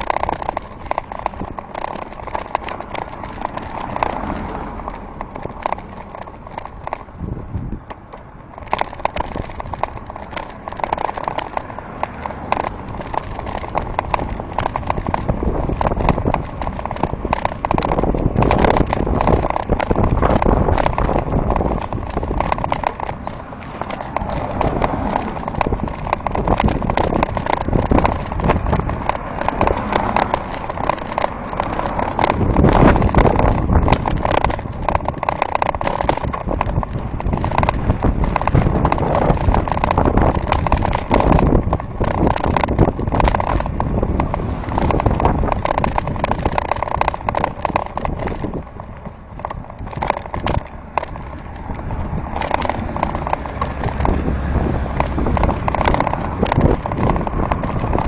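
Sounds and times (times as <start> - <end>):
bicycle rolling and wind noise: 0.0 - 58.0
rattles and knocks from bike: 0.0 - 58.0.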